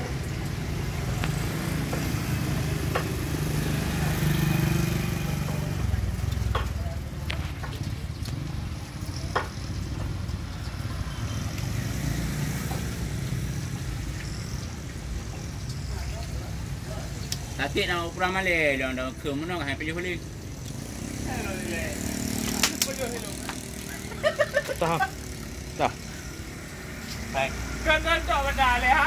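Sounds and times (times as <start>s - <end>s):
motorcycle traffic rumbling: 0.0s - 29.0s.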